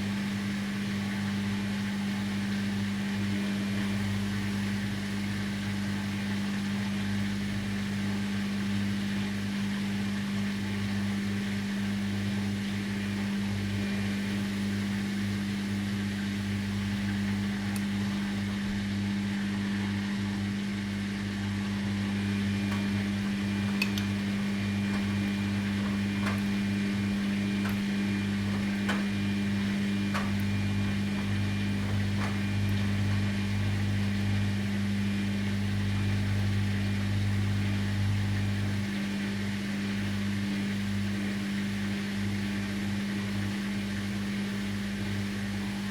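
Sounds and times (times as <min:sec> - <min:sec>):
washing machine motor hum: 0:00.0 - 0:45.9.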